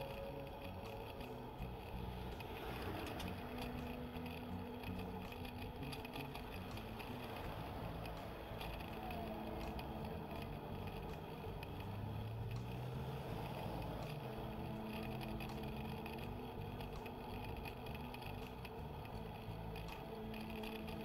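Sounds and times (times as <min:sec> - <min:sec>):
faint ticks: 0:00.0 - 0:21.0
low hum: 0:00.0 - 0:21.0
mountain bike riding rumble: 0:00.0 - 0:21.0.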